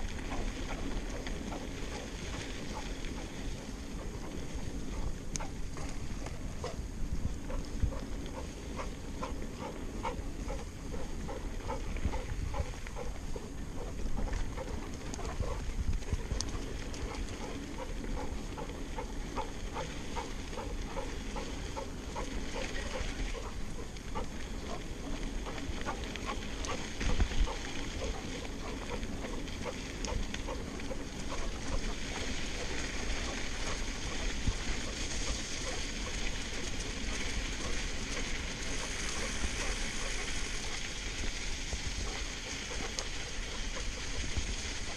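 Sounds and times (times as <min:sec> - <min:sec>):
bike tyres rolling on dirt: 0:00.0 - 0:44.9
rhythmic panting: 0:00.3 - 0:40.8.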